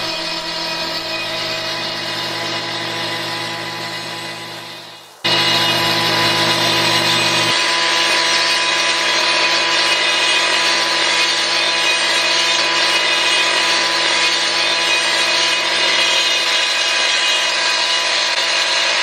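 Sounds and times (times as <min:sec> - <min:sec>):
cut-off saw grinding concrete: 0:00.0 - 0:19.0.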